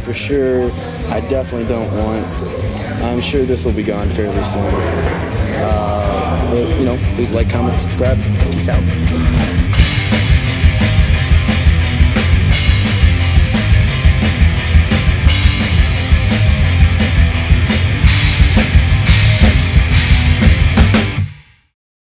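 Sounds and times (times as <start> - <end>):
rock music: 0.0 - 21.7
drum kit beating: 1.3 - 21.4.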